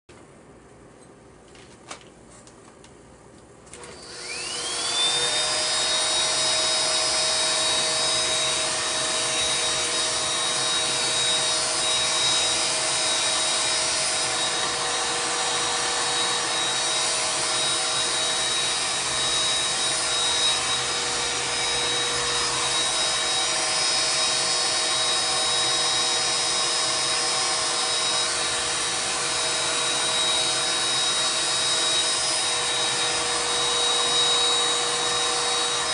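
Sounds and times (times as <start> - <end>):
hair dryer running: 3.7 - 35.9.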